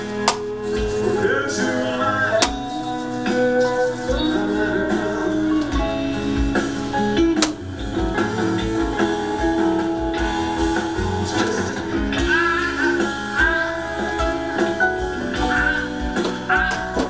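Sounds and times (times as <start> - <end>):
guitar music over bass beat: 0.0 - 17.0.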